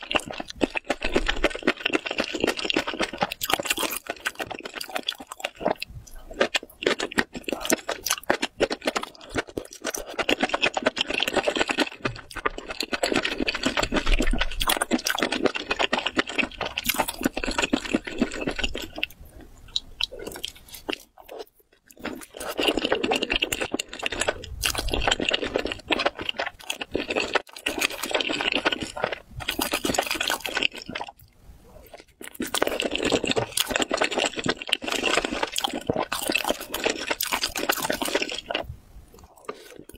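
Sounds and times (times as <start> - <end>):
chewing with wet squelching: 0.0 - 39.9.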